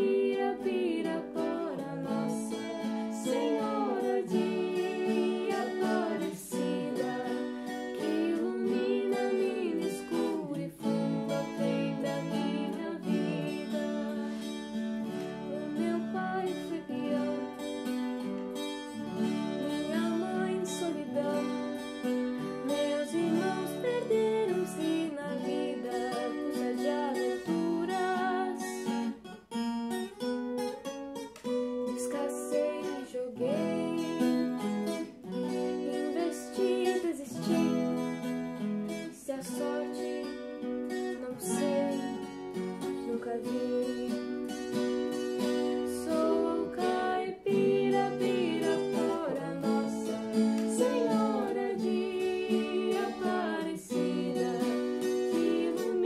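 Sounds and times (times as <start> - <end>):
woman singing: 0.0 - 29.2, 31.8 - 56.0
strummed acoustic guitar: 0.0 - 56.0.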